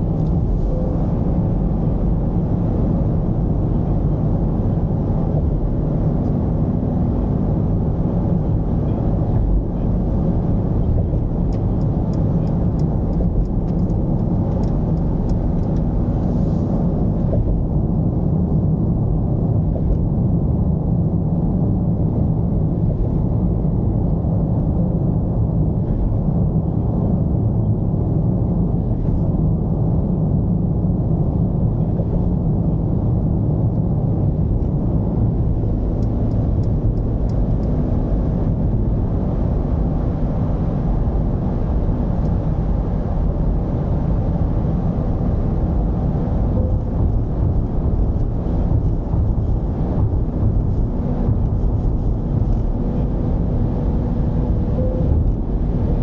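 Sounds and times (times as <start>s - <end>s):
diesel engine rumbling: 0.0s - 56.0s
road noise: 0.0s - 56.0s.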